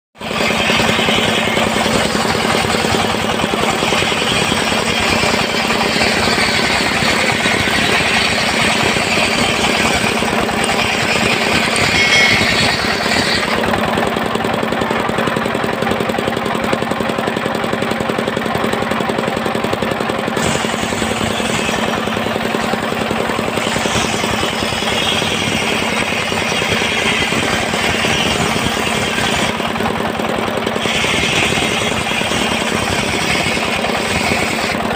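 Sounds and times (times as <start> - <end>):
circular sawmill sawing log: 0.2 - 34.9.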